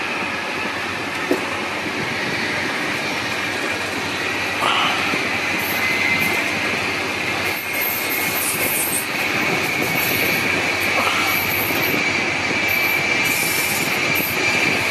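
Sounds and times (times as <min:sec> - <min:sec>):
train wheels rumbling on rail: 0:00.0 - 0:14.9.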